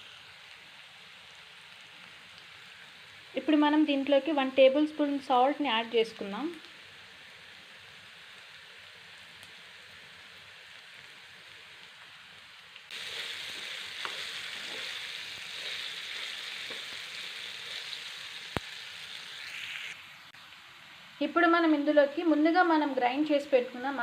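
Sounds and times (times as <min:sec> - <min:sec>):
potatoes sizzling in pan: 0:00.0 - 0:24.0.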